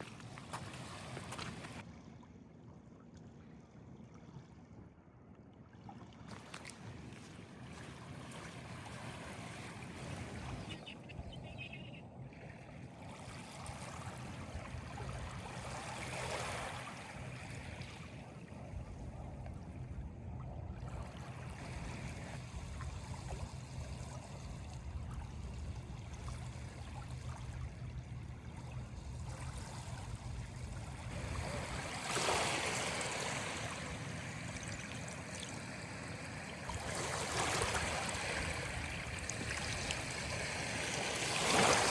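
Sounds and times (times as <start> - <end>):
water trickling and lapping: 0.0 - 2.0, 3.2 - 41.9.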